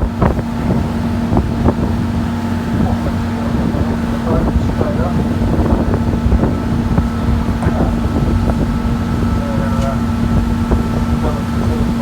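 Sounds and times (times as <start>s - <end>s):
boat engine droning: 0.0s - 12.0s
wind on microphone: 0.0s - 12.0s.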